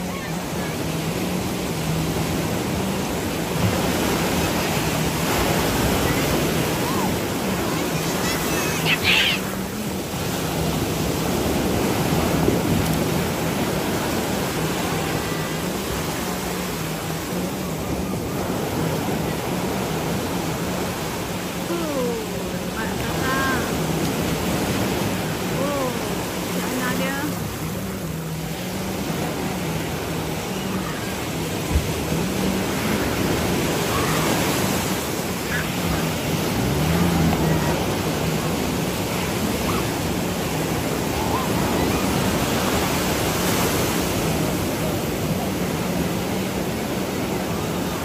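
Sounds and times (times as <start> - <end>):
sea surf washing ashore: 0.0 - 48.0.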